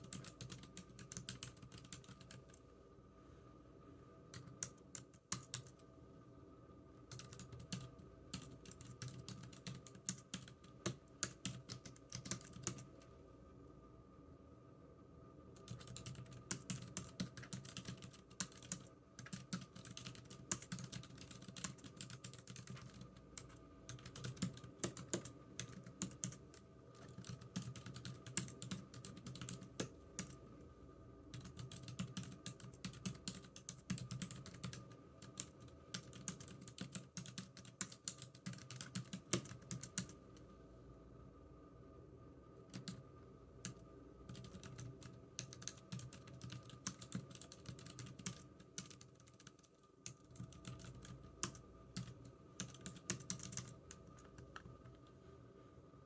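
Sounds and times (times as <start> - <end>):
keyboard typing: 0.0 - 2.6, 4.3 - 5.8, 7.1 - 13.0, 15.6 - 30.4, 31.3 - 40.2, 42.7 - 43.0, 43.6 - 55.0.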